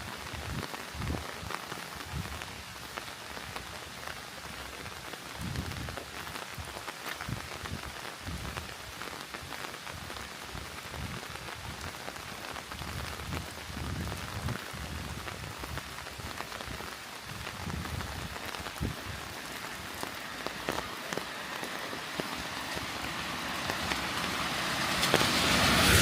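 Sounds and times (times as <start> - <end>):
rain drops ticking on surfaces: 0.0 - 26.0.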